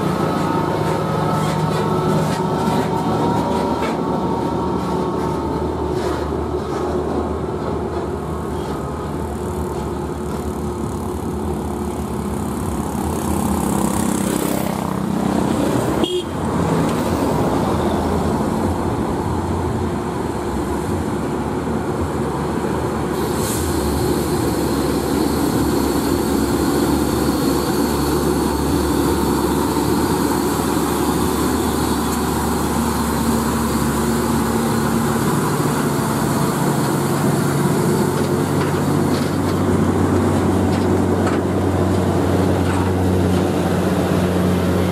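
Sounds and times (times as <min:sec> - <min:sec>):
truck diesel engine labouring: 0:00.0 - 0:44.9.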